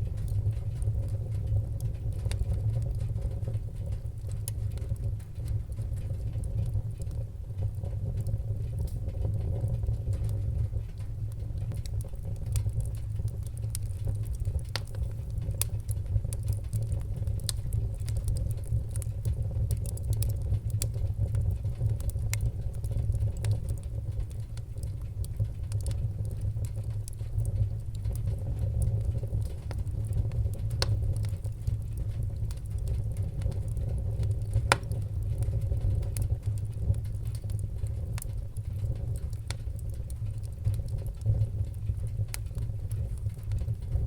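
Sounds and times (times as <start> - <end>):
fire popping and snapping: 0.0 - 44.0
low rumble of flames: 0.0 - 44.0.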